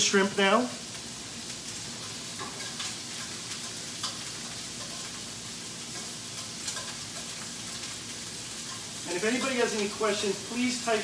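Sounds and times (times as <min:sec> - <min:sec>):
shrimp sizzling in a pan: 0:00.0 - 0:11.0.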